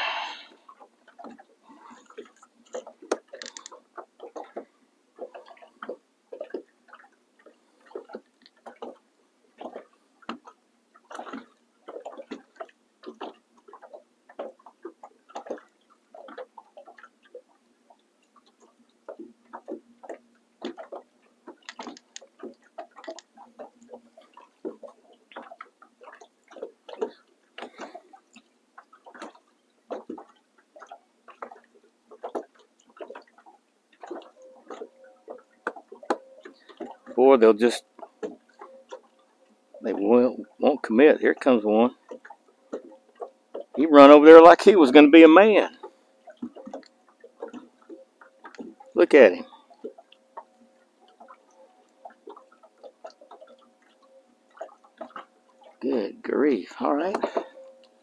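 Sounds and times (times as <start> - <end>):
waves lapping against boat hull: 0.0 - 58.0.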